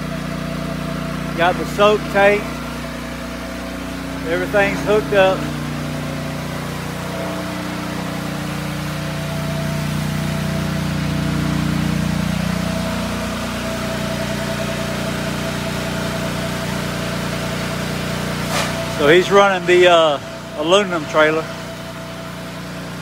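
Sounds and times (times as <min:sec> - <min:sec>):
gas engines humming steadily: 0:00.0 - 0:23.0.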